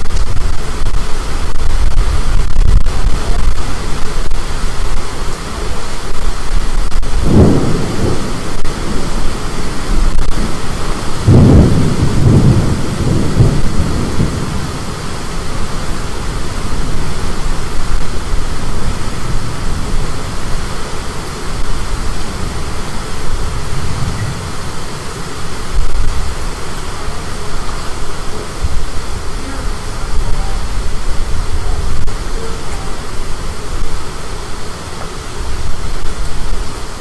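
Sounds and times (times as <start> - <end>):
high wind: 0.0 - 37.0
rain: 0.0 - 37.0
thunder rumbling: 0.0 - 37.0.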